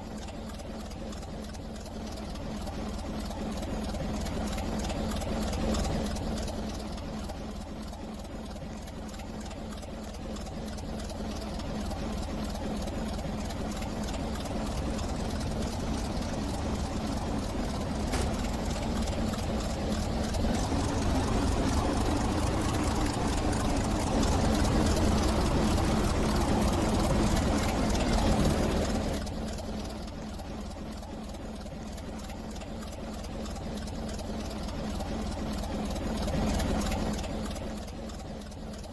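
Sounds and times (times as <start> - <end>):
train rumble from inside carriage: 0.0 - 38.9.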